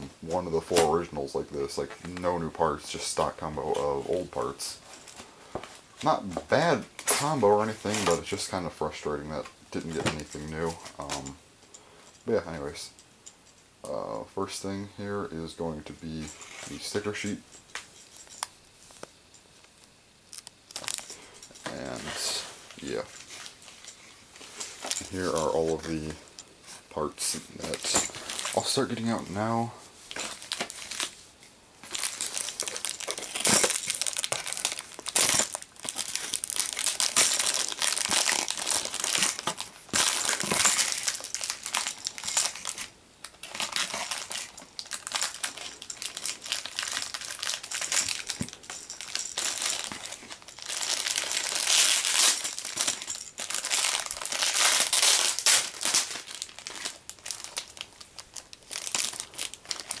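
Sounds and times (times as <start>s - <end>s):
plastic bags crinkling: 0.0s - 11.4s, 15.6s - 60.0s.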